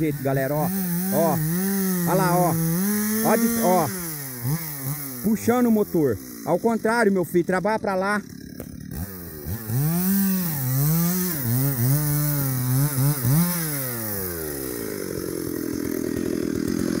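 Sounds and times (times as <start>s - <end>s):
chainsaw cutting a log: 0.0s - 17.0s.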